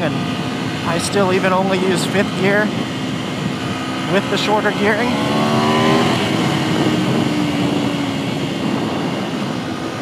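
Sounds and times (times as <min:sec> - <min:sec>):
motorcycle engine: 0:00.0 - 0:10.0
wind rushing: 0:00.0 - 0:10.0.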